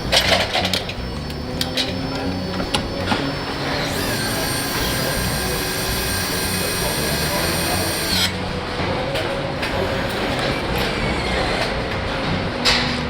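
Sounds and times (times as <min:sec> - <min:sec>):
factory machinery hum: 0:00.0 - 0:13.0
machine high steady whine: 0:00.0 - 0:13.0.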